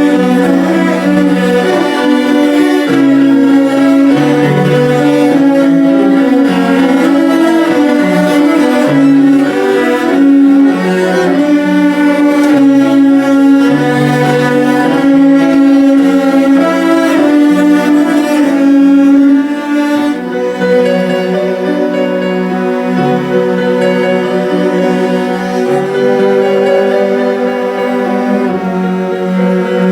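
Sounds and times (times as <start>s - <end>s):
cellos playing: 0.0s - 29.9s.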